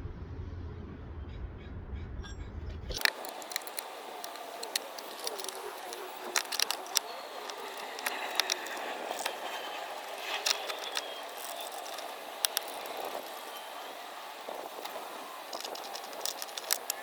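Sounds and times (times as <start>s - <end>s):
metal hardware clicks and clinks: 2.9s - 17.0s
steady background hiss: 3.0s - 17.0s.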